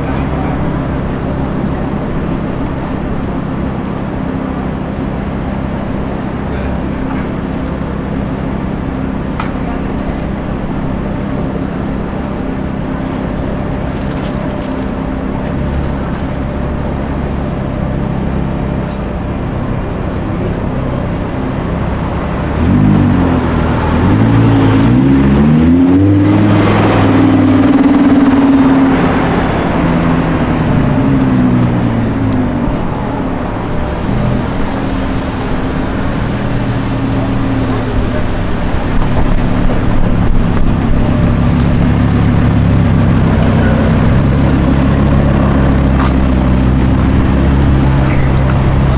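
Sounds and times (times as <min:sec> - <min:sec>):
car engine droning: 0:00.0 - 0:48.9
car engine revving: 0:00.0 - 0:48.9.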